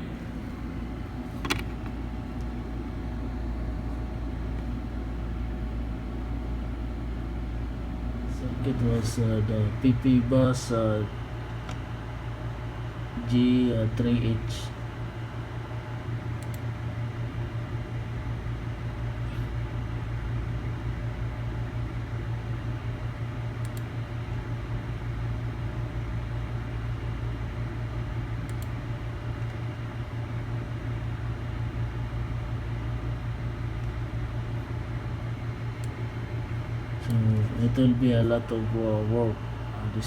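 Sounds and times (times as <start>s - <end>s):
electrical hum with fan hiss: 0.0s - 40.0s.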